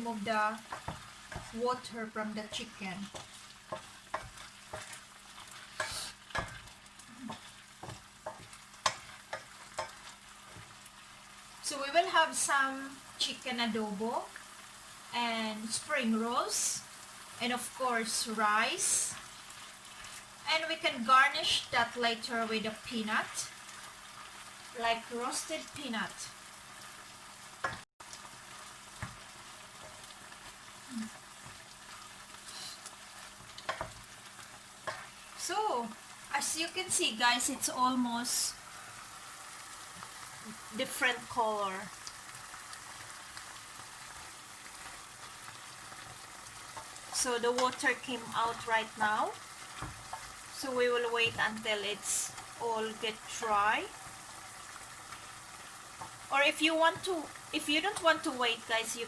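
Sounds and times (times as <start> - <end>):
chicken sizzling in a pan: 0.0 - 59.0.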